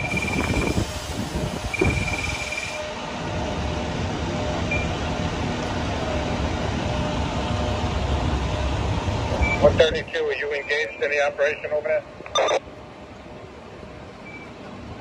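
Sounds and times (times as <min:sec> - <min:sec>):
street noise: 0:00.0 - 0:15.0
vehicle engines idling: 0:00.0 - 0:15.0.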